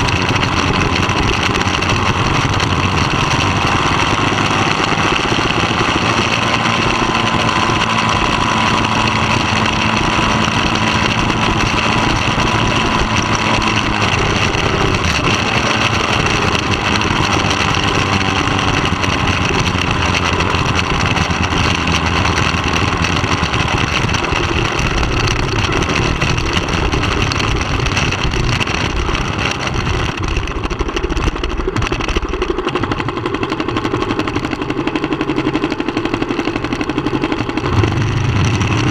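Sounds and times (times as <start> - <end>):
rushing wind noise: 0.0 - 32.9, 37.4 - 38.9
motorcycle engine running: 0.0 - 38.9.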